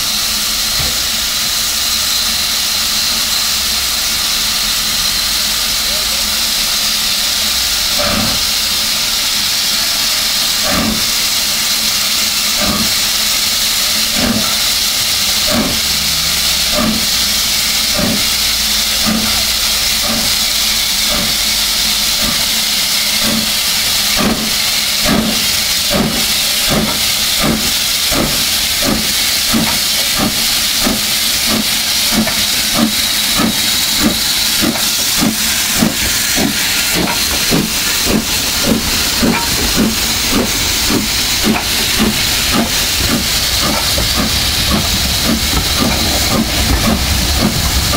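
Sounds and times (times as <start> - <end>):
hiss of escaping steam: 0.0 - 47.9
steam locomotive exhaust chuffs: 0.0 - 47.9.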